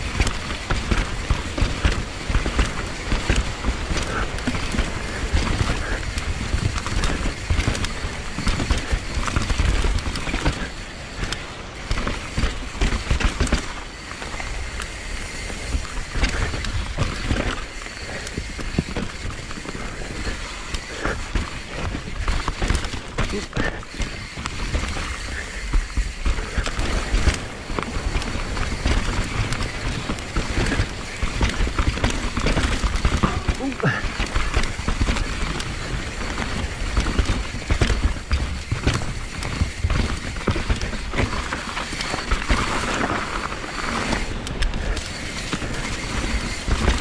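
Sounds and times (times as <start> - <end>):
constant low rumble: 0.0 - 47.0
mountain bike rattling over ground: 0.0 - 47.0.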